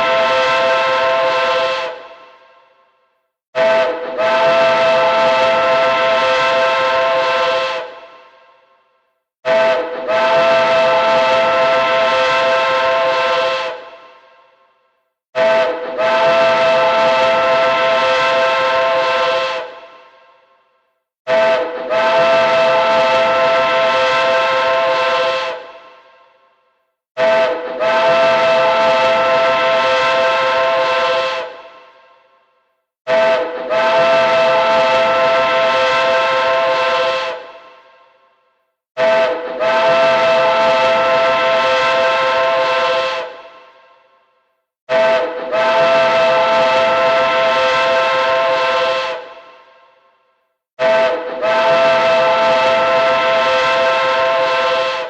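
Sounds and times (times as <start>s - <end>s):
train hooter blasts: 0.0s - 2.8s, 3.6s - 8.8s, 9.4s - 14.7s, 15.4s - 20.6s, 21.3s - 26.5s, 27.2s - 32.4s, 33.1s - 38.3s, 39.0s - 44.2s, 44.9s - 50.1s, 50.8s - 55.0s.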